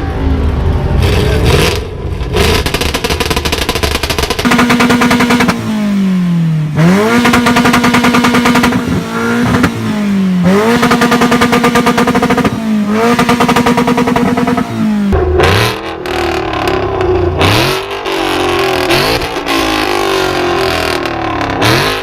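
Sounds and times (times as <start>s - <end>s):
car engine hitting rev limiter: 1.0s - 22.0s.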